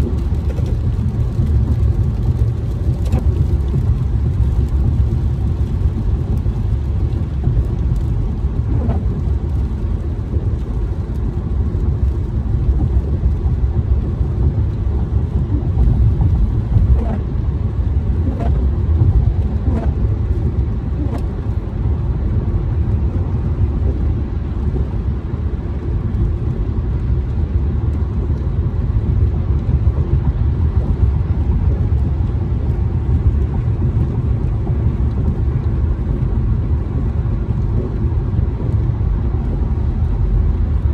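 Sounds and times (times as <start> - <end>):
car driving on wet road: 0.0 - 40.9.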